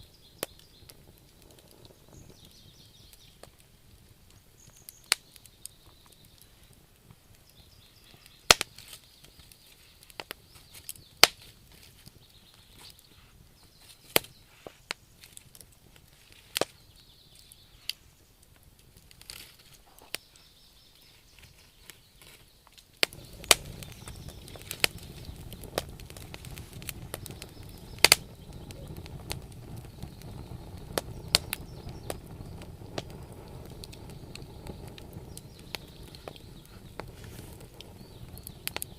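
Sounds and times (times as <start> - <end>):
campfire wood crackling and popping: 0.0 - 38.9
low rush of burning: 0.0 - 38.9.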